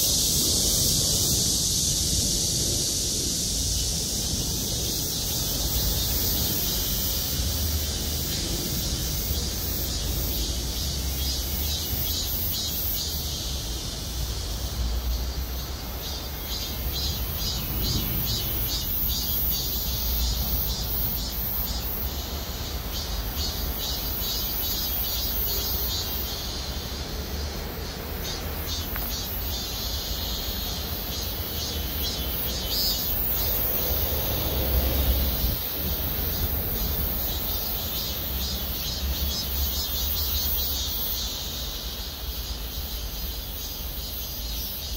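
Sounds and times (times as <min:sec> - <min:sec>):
cicadas singing: 0:00.0 - 0:44.9.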